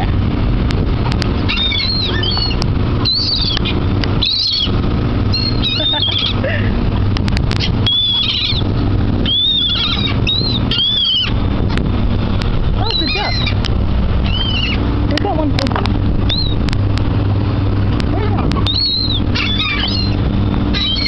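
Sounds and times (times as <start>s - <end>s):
gulls calling: 0.0s - 21.0s
steady low rumble: 0.0s - 21.0s.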